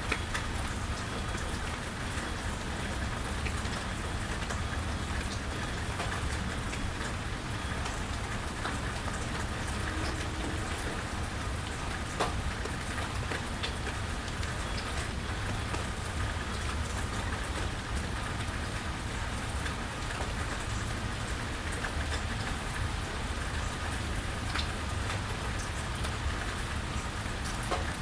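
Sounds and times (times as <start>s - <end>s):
rain falling and dripping: 0.0s - 28.0s.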